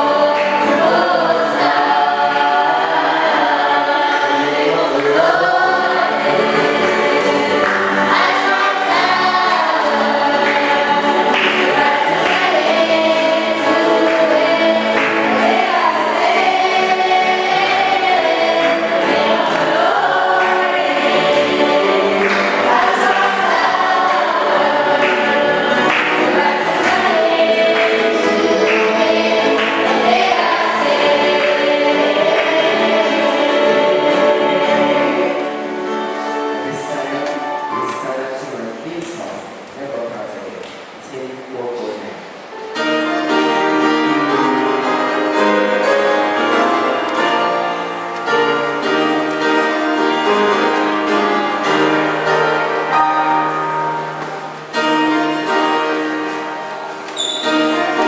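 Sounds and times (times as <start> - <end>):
choir singing a hymn: 0.0 - 39.4, 42.2 - 58.0.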